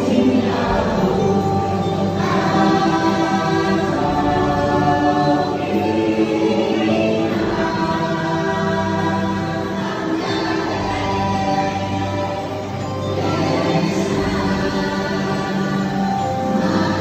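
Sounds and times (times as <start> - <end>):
choir singing sustained chords: 0.0 - 17.0
musical backing: 0.0 - 17.0.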